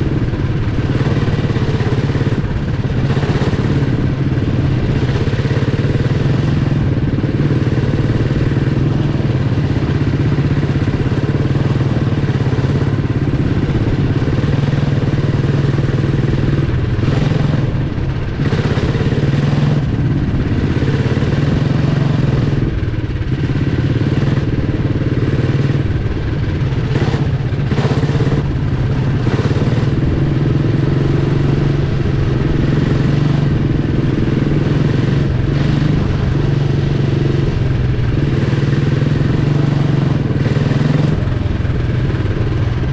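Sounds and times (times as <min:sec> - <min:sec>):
kart engine running flat out: 0:00.0 - 0:42.9.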